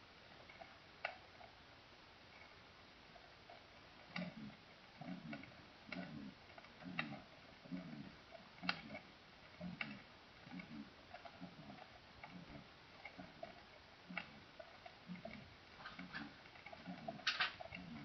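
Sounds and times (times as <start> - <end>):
sharp clicks: 3.5 - 18.0.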